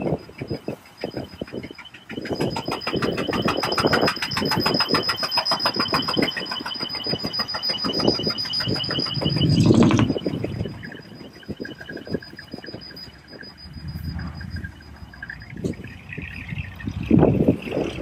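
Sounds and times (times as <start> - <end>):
dump truck diesel engines: 0.0 - 18.0
high rapidly pulsing tone: 0.0 - 18.0.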